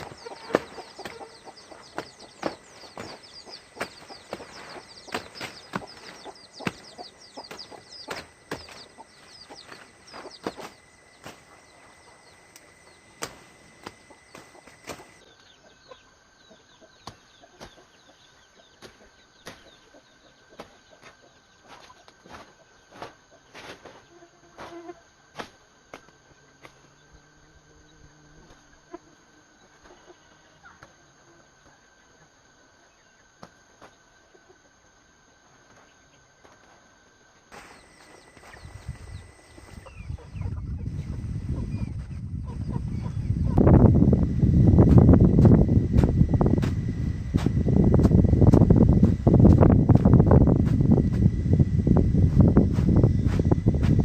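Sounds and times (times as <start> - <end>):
chickens clucking and chirping: 0.0 - 24.0, 28.9 - 31.8, 37.6 - 54.0.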